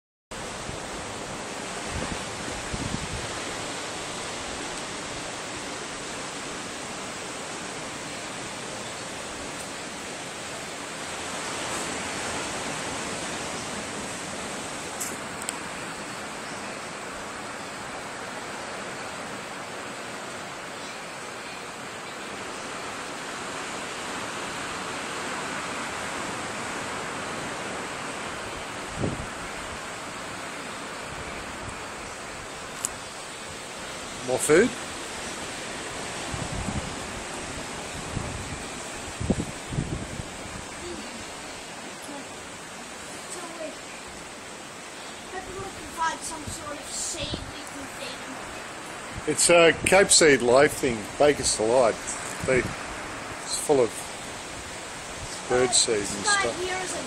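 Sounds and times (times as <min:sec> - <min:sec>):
steady rushing noise: 0:00.3 - 0:57.0.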